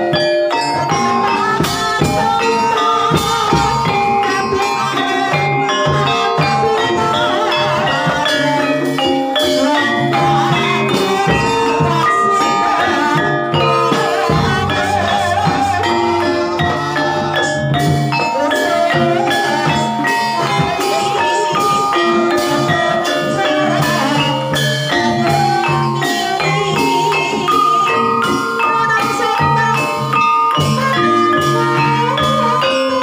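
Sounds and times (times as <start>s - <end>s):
gamelan music: 0.0s - 33.0s.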